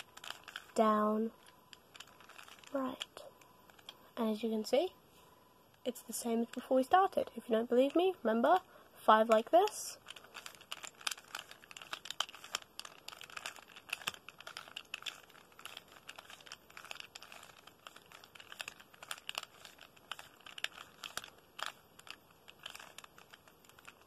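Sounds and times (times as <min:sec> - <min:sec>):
puzzle cube plastic clicks: 0:00.0 - 0:04.9, 0:05.7 - 0:24.0.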